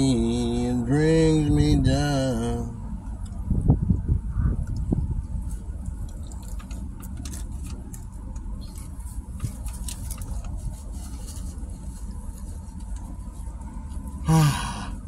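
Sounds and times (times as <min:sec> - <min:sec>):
low rumble inside car cabin: 0:00.0 - 0:15.0.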